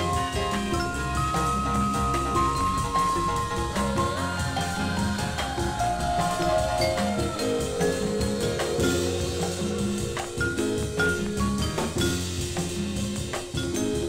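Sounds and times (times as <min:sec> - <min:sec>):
drum kit beat: 0:00.0 - 0:14.0
jazz soul music: 0:00.0 - 0:14.0.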